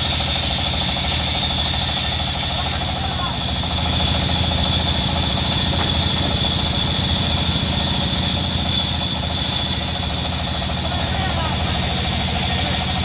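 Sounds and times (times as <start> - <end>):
band saw running: 0.0 - 13.0.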